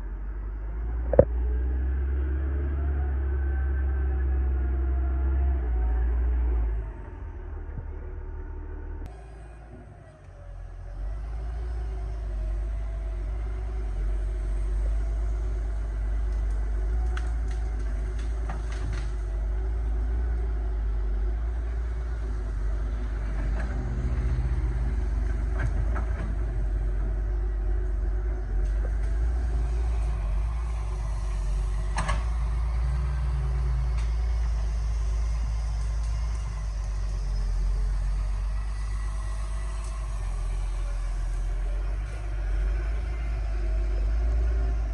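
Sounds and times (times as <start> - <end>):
diesel engine deep rumble: 0.0 - 44.9.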